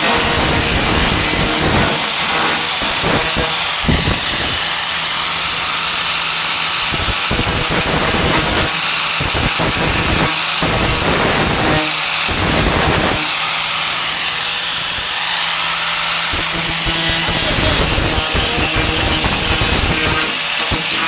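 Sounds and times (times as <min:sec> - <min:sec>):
angle grinder grinding sheet steel: 0:00.0 - 0:21.0.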